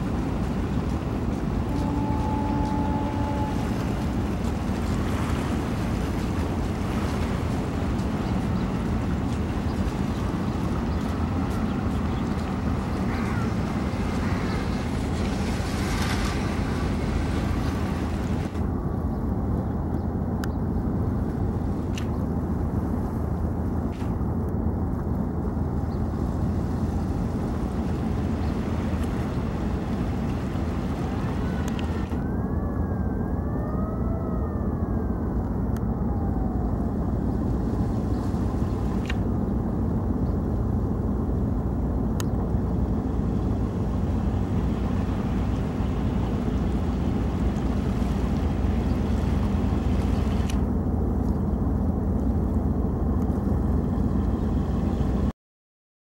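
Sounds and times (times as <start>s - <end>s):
boat engine drone: 0.0s - 55.3s.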